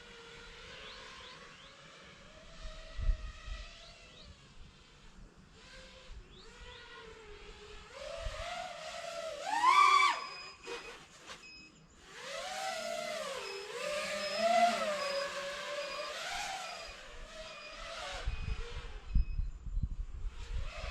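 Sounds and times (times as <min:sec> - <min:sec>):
drone propellers whining: 0:00.0 - 0:19.5.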